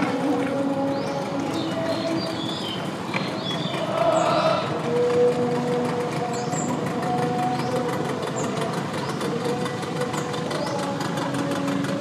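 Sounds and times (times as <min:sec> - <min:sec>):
faint chanting: 0:00.0 - 0:12.0
motor engine running: 0:00.0 - 0:12.0.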